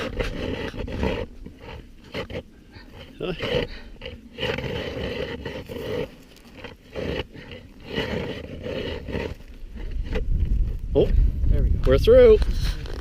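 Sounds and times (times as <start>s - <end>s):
ice auger grinding through ice: 0.0s - 11.1s.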